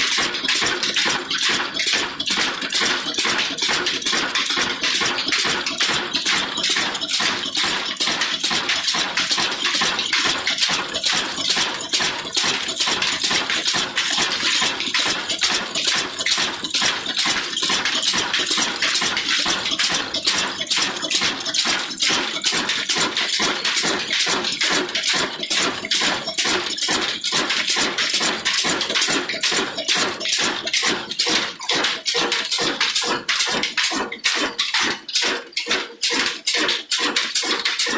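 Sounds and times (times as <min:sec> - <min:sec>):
stationary engine knocking: 0:00.0 - 0:37.9.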